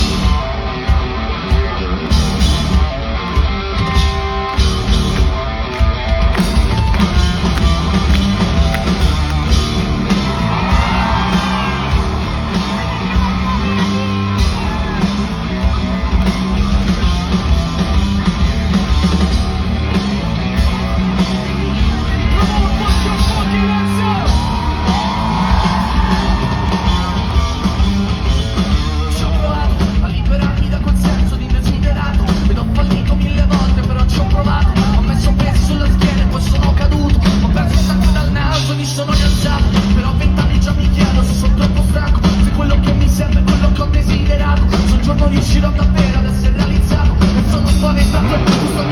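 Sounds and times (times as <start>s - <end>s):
rock band playing live: 0.0s - 48.9s
voices singing and yelling: 0.0s - 48.9s.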